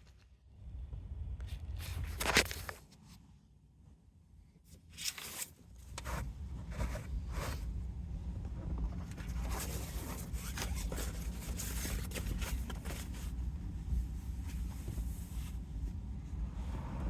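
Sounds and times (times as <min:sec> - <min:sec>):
steady low rumble: 0:00.0 - 0:05.0, 0:05.6 - 0:17.0
rustling and scraping of handling: 0:01.4 - 0:03.3, 0:04.7 - 0:16.7.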